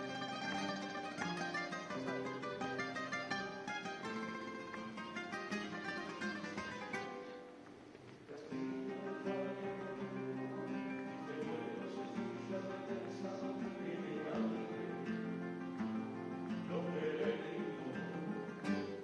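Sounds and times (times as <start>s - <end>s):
acoustic guitars playing: 0.0s - 19.0s.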